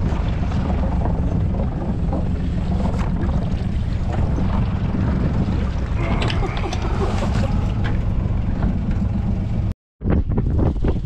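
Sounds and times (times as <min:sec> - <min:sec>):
faint water splashing: 0:00.0 - 0:09.5
wind buffeting microphone: 0:00.0 - 0:11.0.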